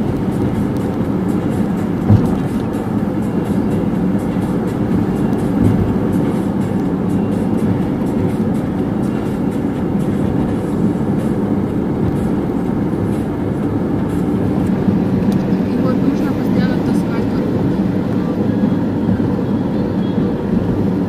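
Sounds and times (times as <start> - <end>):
car road noise from inside: 0.0 - 21.0.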